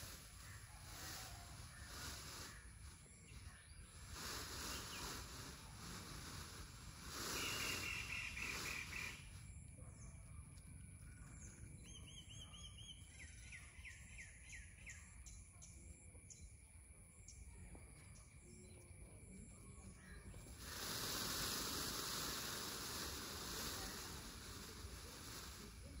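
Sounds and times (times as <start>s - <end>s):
insect trill: 0.0s - 26.0s
small birds chirping: 0.0s - 26.0s.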